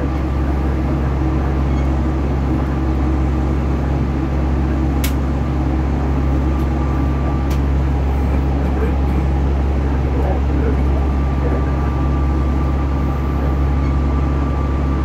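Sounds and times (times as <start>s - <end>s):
train interior rumble and hum: 0.0s - 15.0s.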